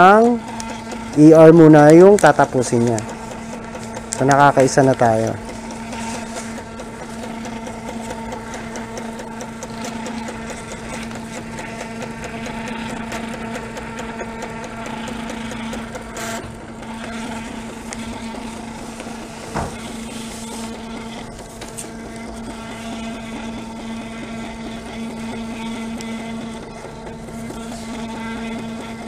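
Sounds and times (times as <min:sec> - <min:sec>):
thermal printer humming and ticking: 0:00.0 - 0:29.0.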